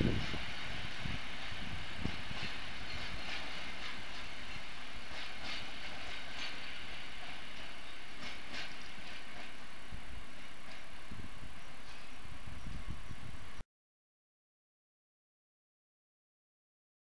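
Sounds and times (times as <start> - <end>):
train rumbling over points: 0.0 - 13.6.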